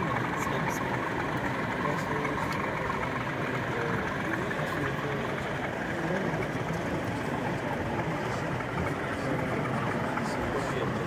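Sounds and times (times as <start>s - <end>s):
hubbub of many voices: 0.0s - 11.0s.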